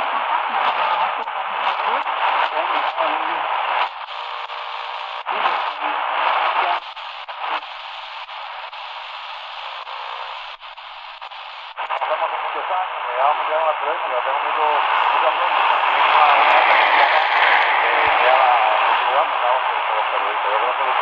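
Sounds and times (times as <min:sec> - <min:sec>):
radio hiss and crackle: 0:00.0 - 0:21.0
radio voice through static: 0:00.0 - 0:21.0.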